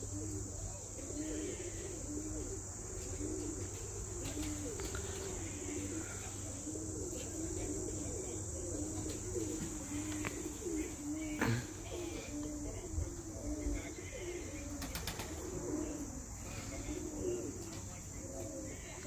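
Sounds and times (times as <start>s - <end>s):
high-pitched insect drone: 0.0s - 19.0s
pigeons cooing: 0.0s - 19.0s.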